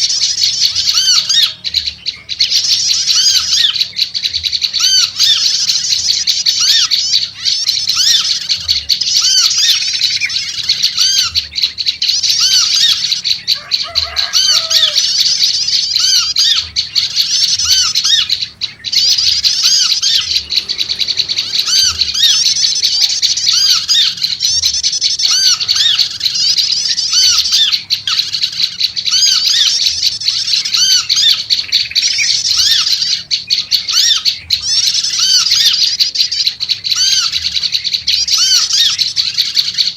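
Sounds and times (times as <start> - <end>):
small bird chattering: 0.0 - 39.9.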